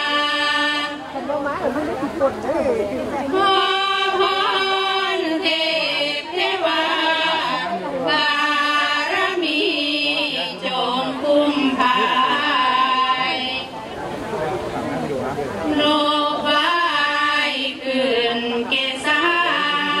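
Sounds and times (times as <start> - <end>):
women chanting in unison: 0.0 - 1.3, 3.2 - 13.7, 15.7 - 20.0.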